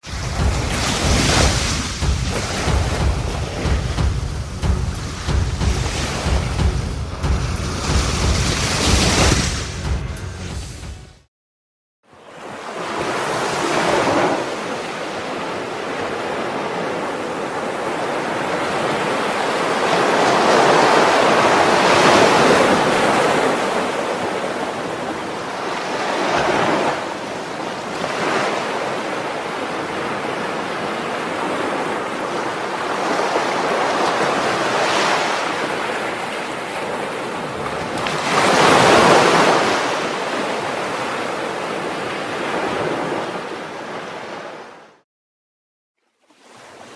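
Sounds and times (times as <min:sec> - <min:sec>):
sea waves breaking: 0:00.0 - 0:11.3, 0:12.2 - 0:45.0.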